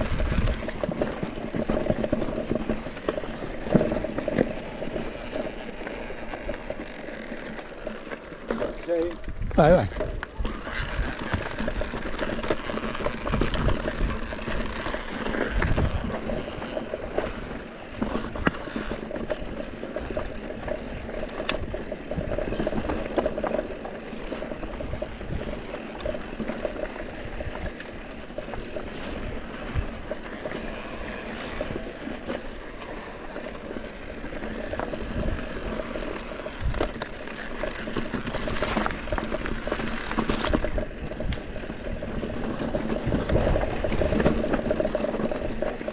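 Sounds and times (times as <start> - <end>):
bike rattling: 0.0 - 45.9
bike tyres rolling on dirt and stone: 0.0 - 45.9.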